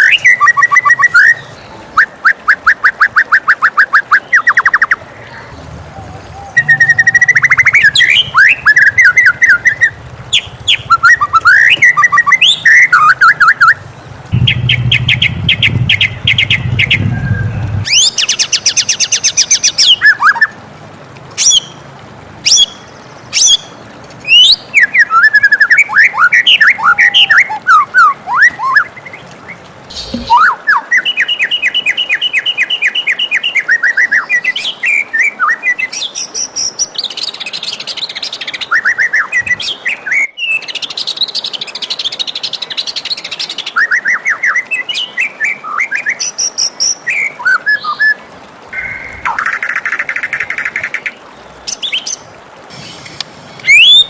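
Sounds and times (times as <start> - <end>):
songbird singing varied song: 0.0 - 20.5, 22.5 - 29.2, 29.9 - 48.2, 51.7 - 54.0.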